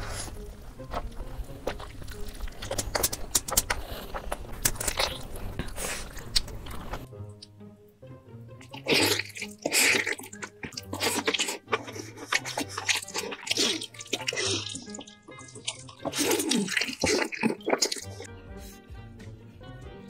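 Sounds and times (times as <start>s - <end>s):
wet chewing and slurping: 0.0s - 7.1s, 8.6s - 18.3s.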